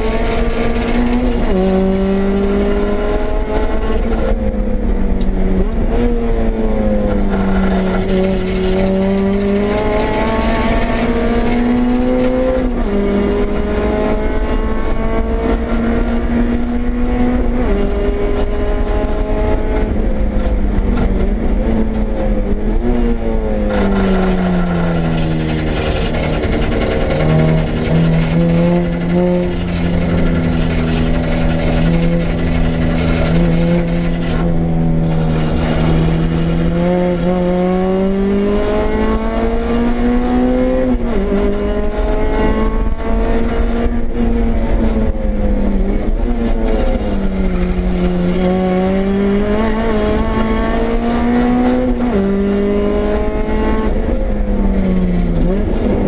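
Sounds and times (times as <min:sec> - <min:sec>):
car engine revving under acceleration: 0:00.0 - 0:56.0.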